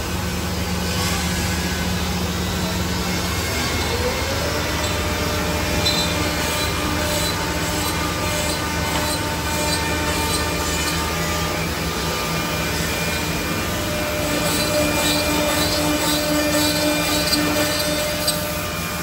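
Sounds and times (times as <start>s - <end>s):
machine router spindles cutting wood: 1.0s - 19.0s.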